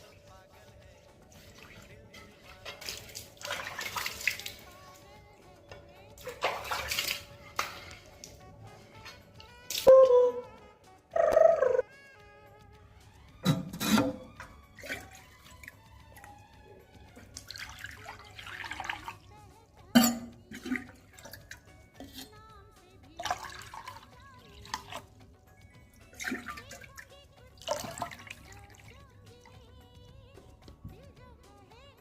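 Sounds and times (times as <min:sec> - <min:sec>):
water splashing: 0:00.0 - 0:10.6, 0:13.4 - 0:22.4, 0:23.1 - 0:29.7.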